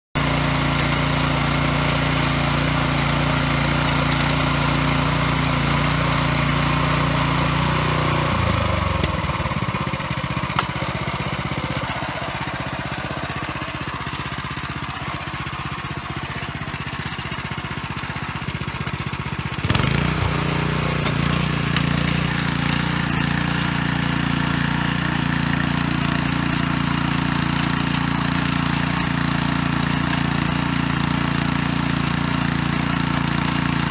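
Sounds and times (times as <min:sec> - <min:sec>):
tiller petrol engine running: 0:00.2 - 0:33.9.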